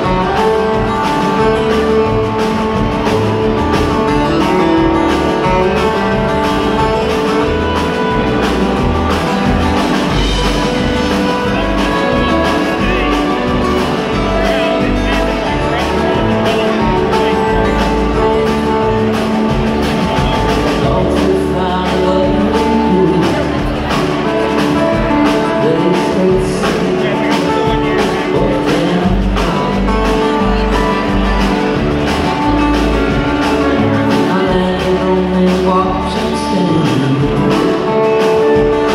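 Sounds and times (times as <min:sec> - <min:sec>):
string band playing: 0:00.0 - 0:38.9.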